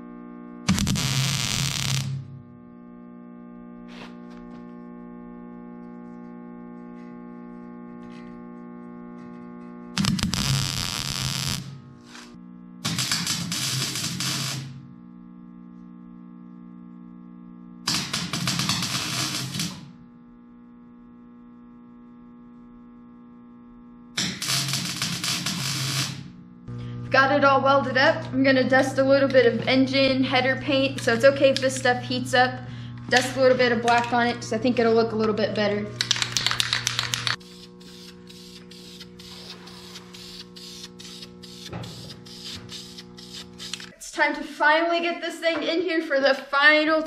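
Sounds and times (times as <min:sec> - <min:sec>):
welder electrical hum: 0:00.0 - 0:47.0.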